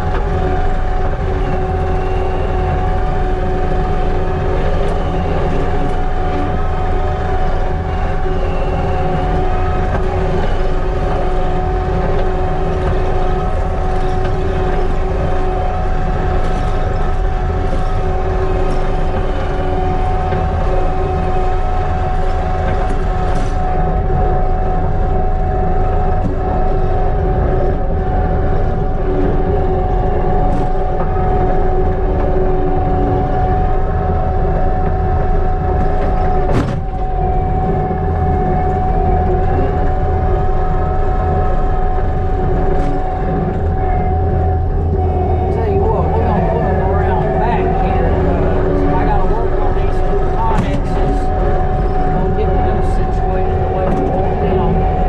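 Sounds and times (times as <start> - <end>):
diesel engine drone from cab: 0.0 - 55.0.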